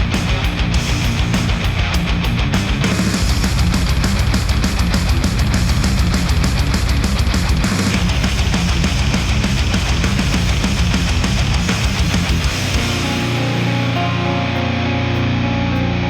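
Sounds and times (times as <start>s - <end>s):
heavy rock music through headphones: 0.0s - 16.0s.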